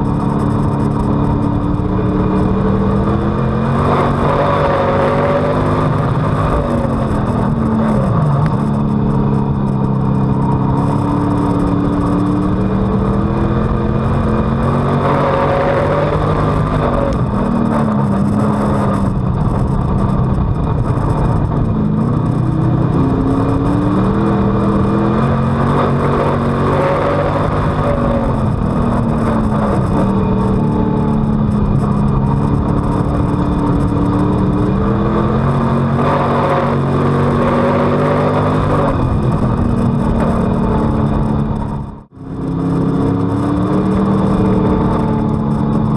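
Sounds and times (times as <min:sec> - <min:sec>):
race car engine revving: 0:00.0 - 0:45.9.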